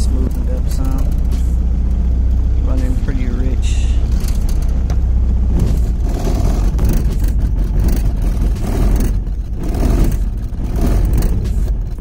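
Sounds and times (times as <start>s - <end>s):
car engine running unevenly: 0.0s - 12.0s.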